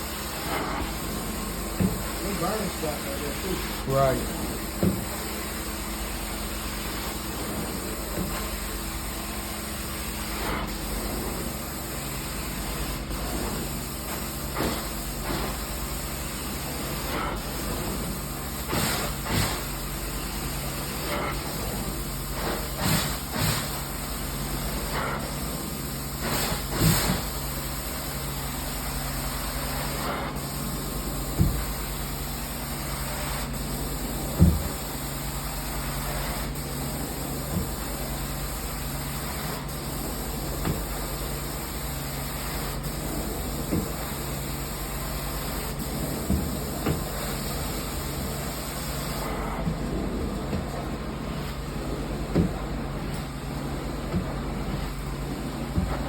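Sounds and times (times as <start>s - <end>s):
carpet cleaning machine running: 0.0s - 56.0s.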